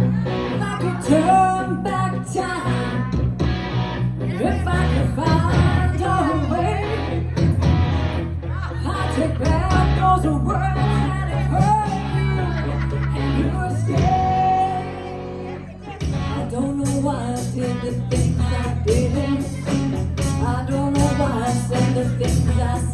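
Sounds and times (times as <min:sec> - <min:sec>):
bass line: 0:00.0 - 0:22.9
guitar: 0:00.0 - 0:22.9
person singing: 0:00.0 - 0:22.9.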